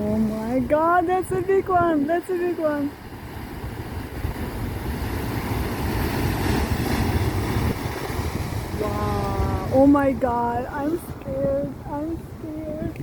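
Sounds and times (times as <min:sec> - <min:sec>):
ocean waves rushing in: 0:00.0 - 0:13.0.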